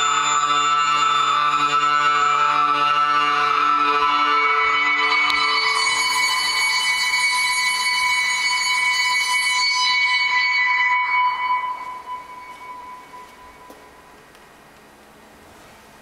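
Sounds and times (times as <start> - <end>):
sustained electronic tones: 0.0 - 14.4.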